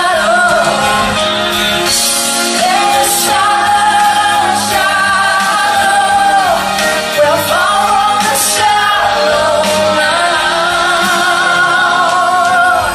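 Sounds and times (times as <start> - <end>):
woman singing into a microphone: 0.0 - 1.3, 2.5 - 12.9
backing music: 0.0 - 12.9.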